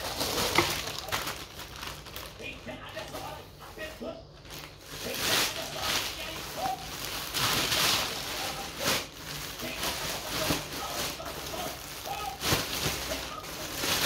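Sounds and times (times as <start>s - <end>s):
plastic bag rustling and crinkling: 0.0s - 14.0s.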